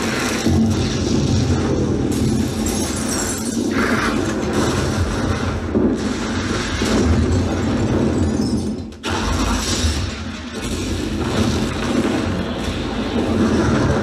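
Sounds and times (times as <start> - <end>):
crashes: 0.0 - 14.0
explosions: 0.0 - 14.0.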